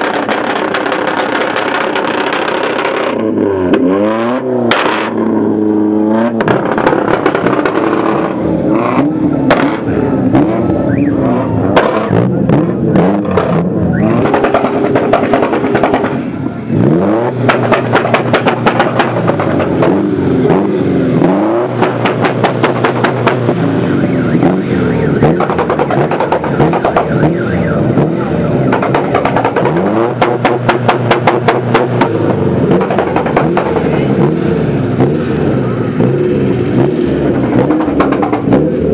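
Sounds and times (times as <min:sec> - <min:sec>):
exhaust crackles and pops: 0:00.0 - 0:03.9, 0:06.3 - 0:10.5, 0:11.2 - 0:16.3, 0:17.2 - 0:38.9
car engine revving: 0:00.0 - 0:38.9.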